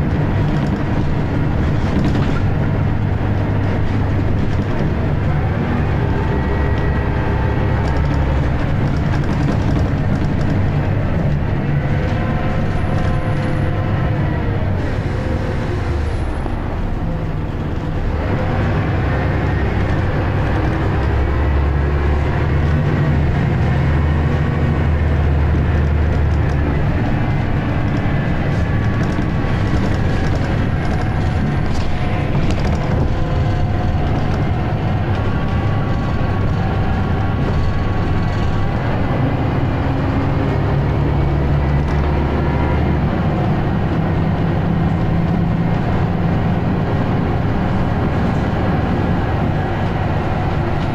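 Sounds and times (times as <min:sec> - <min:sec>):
bus diesel engine: 0:00.0 - 0:50.9
road and body rattle: 0:00.0 - 0:50.9.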